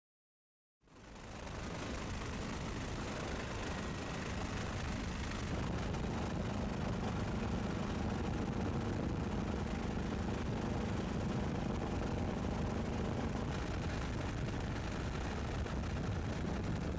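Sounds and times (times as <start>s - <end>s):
helicopter engine and rotor: 0.9s - 16.9s.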